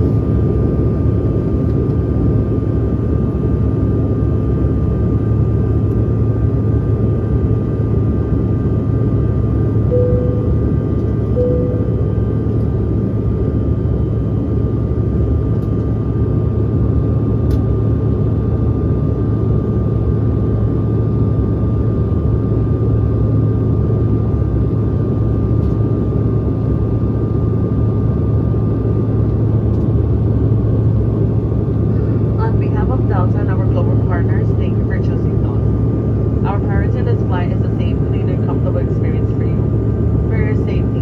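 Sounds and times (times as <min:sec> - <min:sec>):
jet cabin engine roar: 0:00.0 - 0:41.0.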